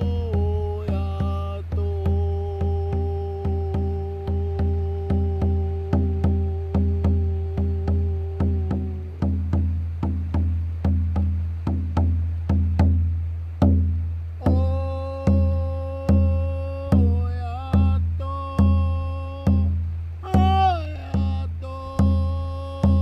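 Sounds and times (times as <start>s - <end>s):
deep hand drum beating: 0.0s - 23.0s.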